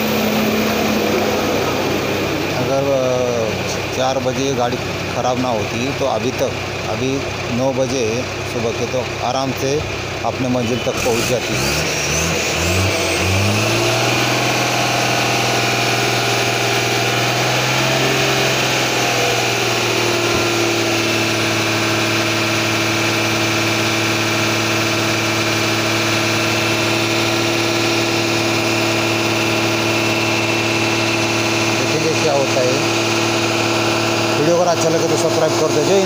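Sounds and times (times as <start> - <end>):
diesel truck engine idling: 0.0 - 36.0.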